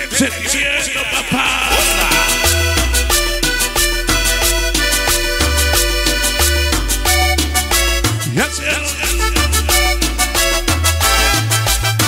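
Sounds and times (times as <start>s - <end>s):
cumbia music with heavy bass: 0.0s - 12.0s.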